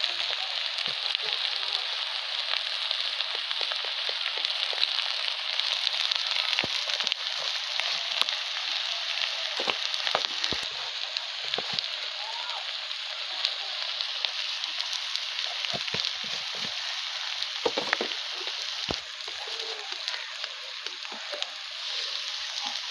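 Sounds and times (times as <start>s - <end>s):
food sizzling in hot oil: 0.0s - 22.9s
oil crackling and popping: 0.0s - 22.9s.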